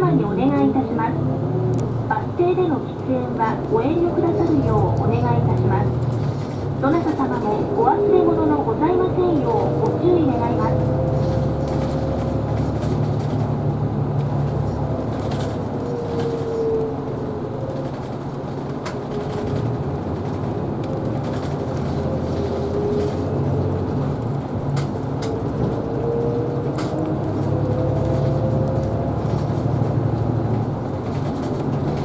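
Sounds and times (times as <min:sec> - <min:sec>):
bus engine drone with whine: 0:00.0 - 0:32.0.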